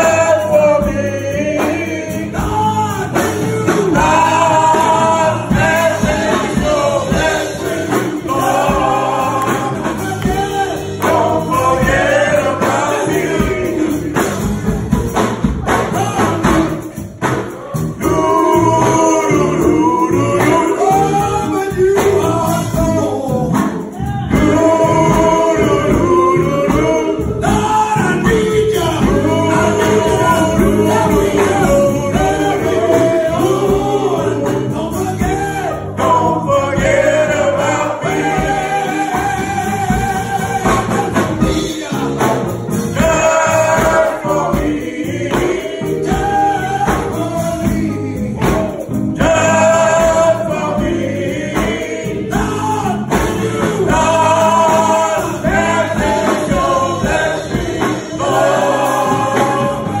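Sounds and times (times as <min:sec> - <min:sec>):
men's vocal group singing gospel: 0:00.0 - 1:00.0.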